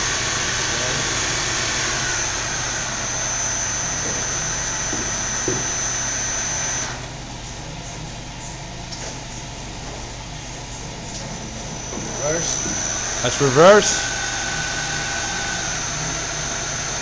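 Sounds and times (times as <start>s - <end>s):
lathe running: 0.0s - 7.5s, 10.6s - 17.0s
high-pitched whine: 0.0s - 8.1s, 10.6s - 17.0s.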